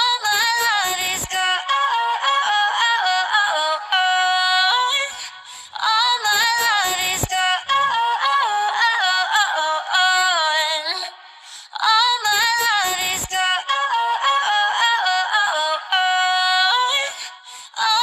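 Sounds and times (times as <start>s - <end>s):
woman singing: 0.0s - 18.0s.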